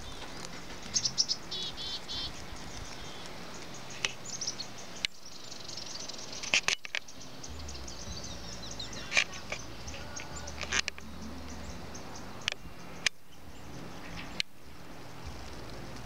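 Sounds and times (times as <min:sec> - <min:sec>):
low steady hum: 0:00.0 - 0:16.0
outdoor background noise: 0:00.0 - 0:16.0
small birds chirping: 0:00.0 - 0:16.0.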